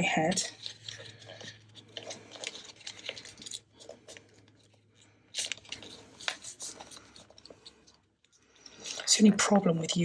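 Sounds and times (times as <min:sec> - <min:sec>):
hands handling paper: 0:00.2 - 0:09.4.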